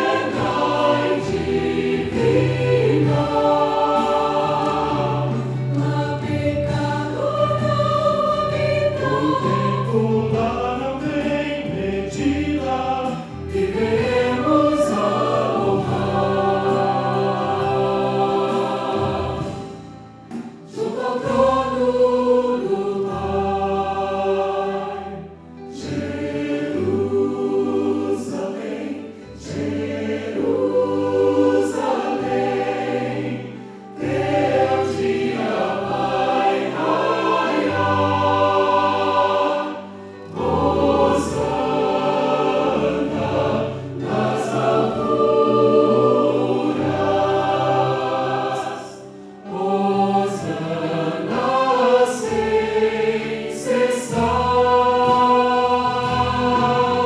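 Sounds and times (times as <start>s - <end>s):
mixed choir singing in harmony: 0.0s - 57.0s.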